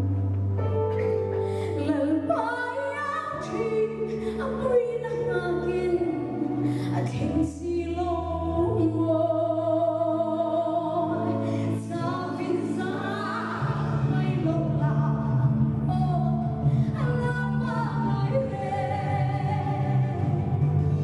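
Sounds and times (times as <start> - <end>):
held low backing chords: 0.0 - 21.0
woman singing gospel song: 1.8 - 20.6.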